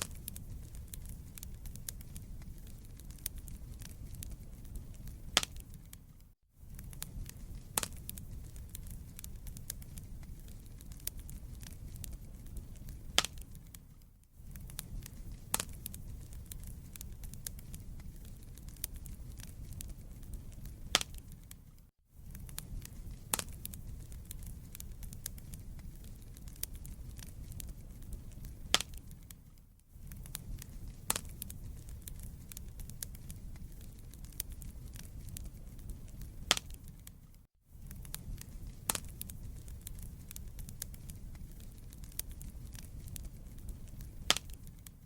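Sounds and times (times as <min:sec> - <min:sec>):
burning logs crackling and popping: 0:00.0 - 0:45.0
low rumble of flames: 0:00.0 - 0:45.0.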